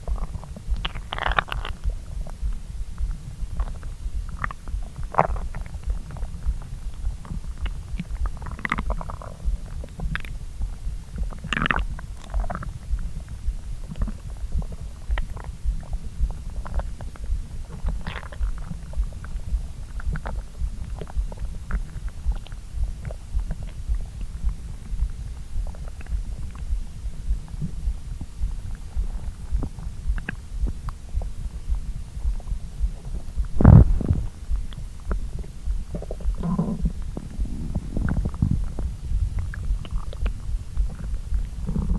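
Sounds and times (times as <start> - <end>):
stomach gurgling: 0.0 - 41.9.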